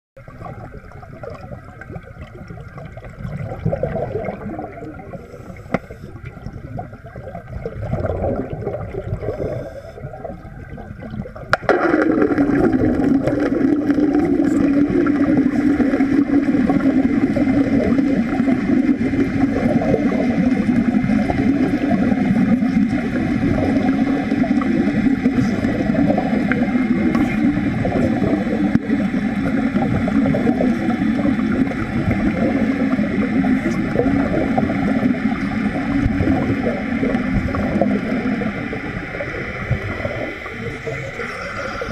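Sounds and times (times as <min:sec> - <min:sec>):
water gurgling and bubbling: 0:00.2 - 0:41.9
underwater welding arc buzzing: 0:03.6 - 0:10.7, 0:11.3 - 0:41.9.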